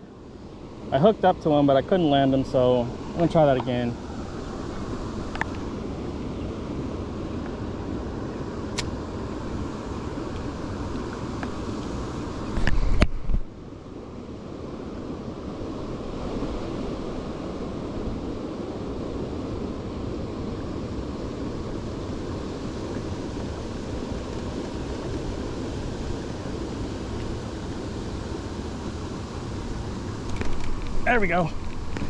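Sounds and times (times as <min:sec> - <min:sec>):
rushing water: 0:00.0 - 0:32.0
rushing wind: 0:00.0 - 0:32.0.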